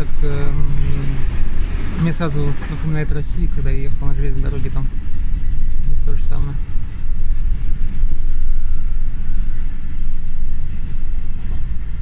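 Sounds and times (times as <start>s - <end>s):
train carriage rumbling on rails: 0.0s - 12.0s.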